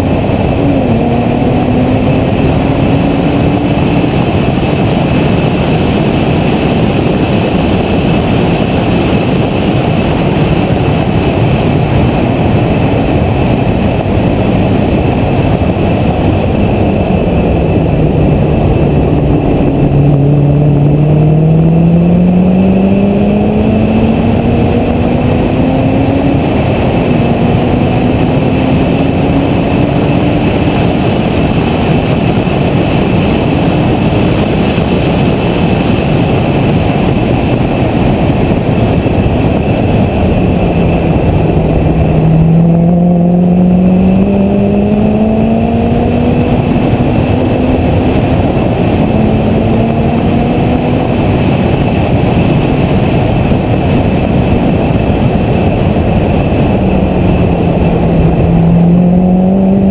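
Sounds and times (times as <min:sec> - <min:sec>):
car engine running hard: 0:00.0 - 0:59.9
wind and road rush: 0:00.0 - 0:59.9.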